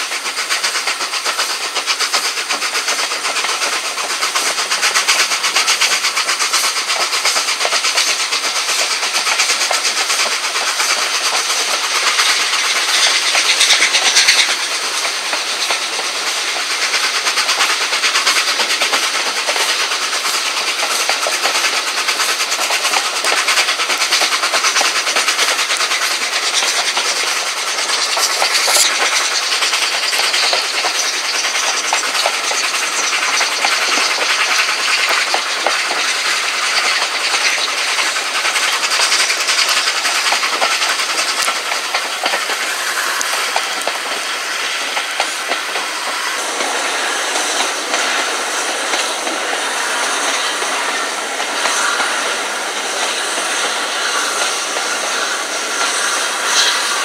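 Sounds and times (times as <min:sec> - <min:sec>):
steam hissing: 0:00.0 - 0:57.0
train running noise: 0:00.0 - 0:57.0
wheels clicking over rail joints: 0:00.0 - 0:57.0.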